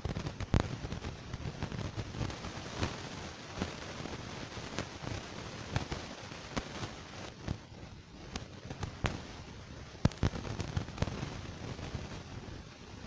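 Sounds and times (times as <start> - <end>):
sharp clicks and pops: 0.0 - 12.3
background hiss: 0.0 - 13.0.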